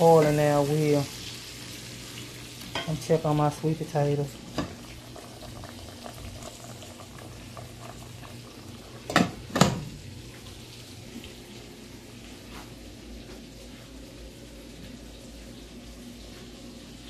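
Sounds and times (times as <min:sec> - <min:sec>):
pot boiling and bubbling: 0:00.0 - 0:17.0.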